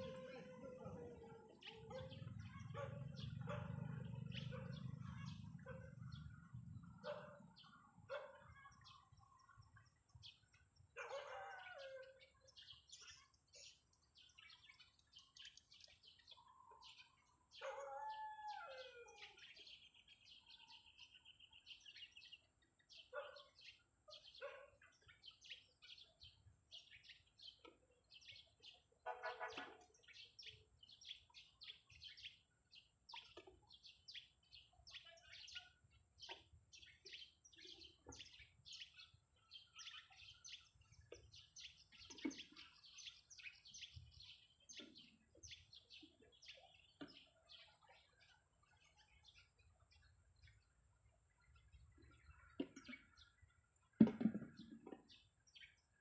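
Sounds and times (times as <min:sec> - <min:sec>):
birds chirping and calling: 0:00.0 - 0:55.9.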